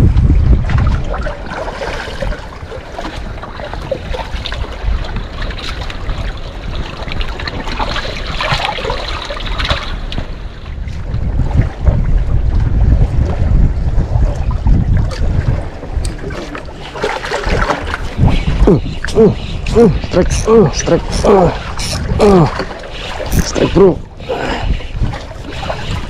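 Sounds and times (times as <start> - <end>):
water splashing around boat: 0.0 - 26.0
wind rumbling on microphone: 0.0 - 26.0.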